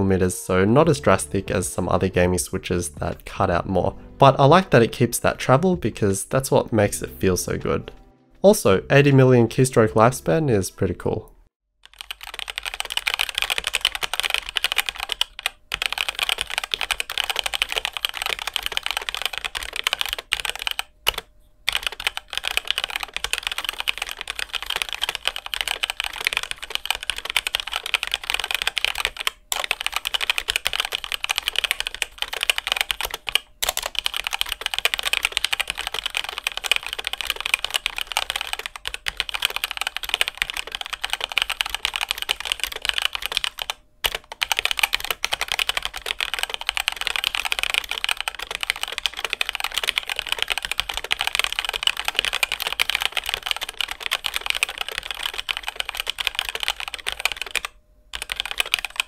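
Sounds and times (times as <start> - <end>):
mechanical keyboard typing: 0.0 - 8.0, 11.8 - 59.0.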